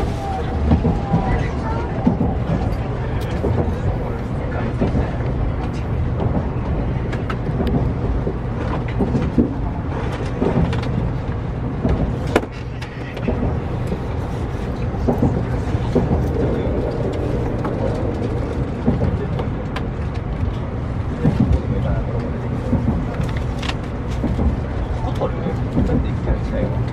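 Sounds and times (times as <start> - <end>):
train rumble inside carriage: 0.0 - 26.9.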